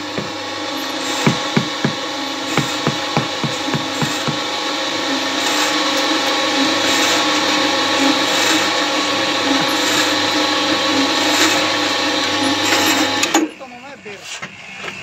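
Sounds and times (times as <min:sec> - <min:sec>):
machine motor running with whine: 0:00.0 - 0:15.0.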